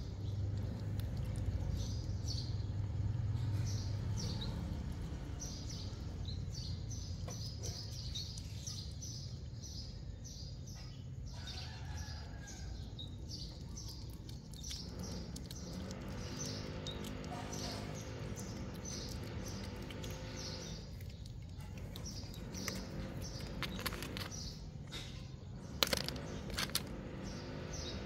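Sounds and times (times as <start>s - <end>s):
low background rumble: 0.0s - 28.0s
small birds chirping: 0.0s - 28.0s.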